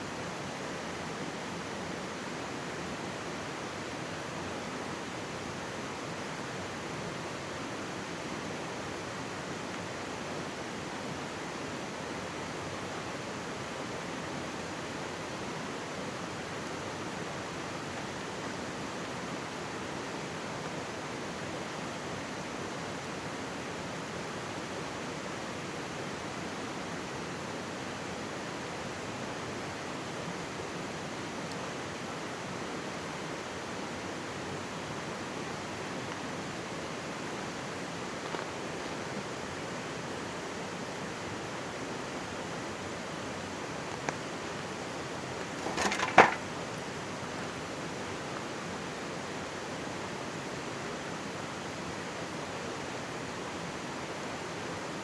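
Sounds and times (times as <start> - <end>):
stream babbling and rushing: 0.0 - 55.0.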